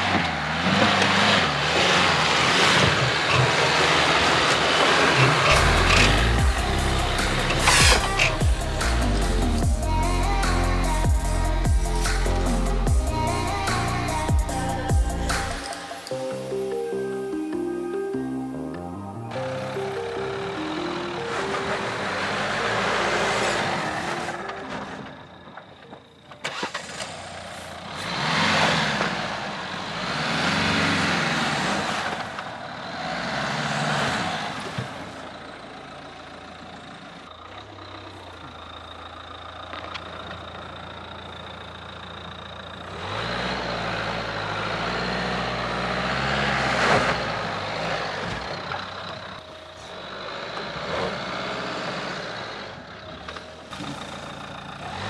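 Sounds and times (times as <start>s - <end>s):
car engine revving under load: 0.0s - 16.1s, 26.4s - 55.0s.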